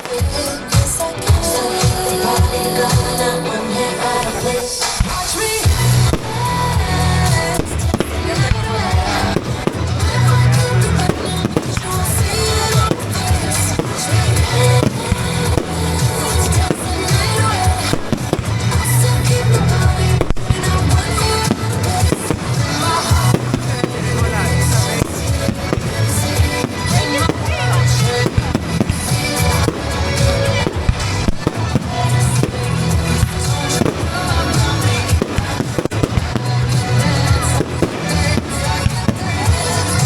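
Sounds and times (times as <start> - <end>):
fireworks bangs and crackling: 0.0 - 40.0
music with steady beat: 0.0 - 40.0.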